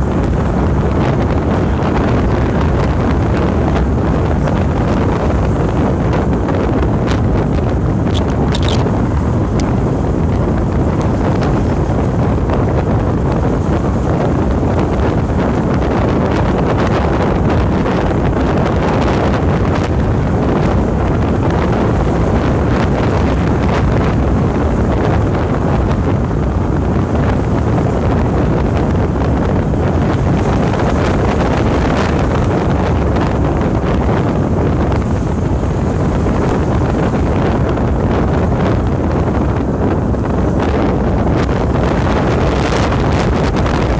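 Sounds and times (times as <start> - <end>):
car road noise: 0.0 - 43.9
wind rumble on microphone: 0.0 - 43.9.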